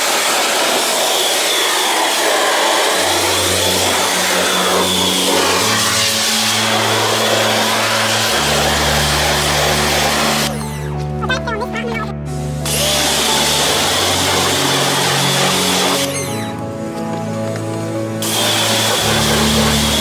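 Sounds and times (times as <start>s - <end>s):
pressure washer spraying: 0.0s - 11.6s, 12.3s - 20.0s.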